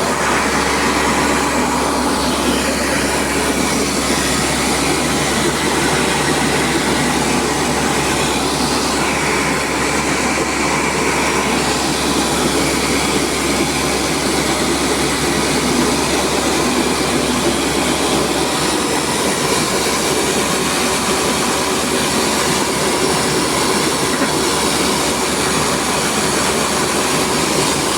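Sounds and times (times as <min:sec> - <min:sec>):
rice milling machine running: 0:00.0 - 0:27.9.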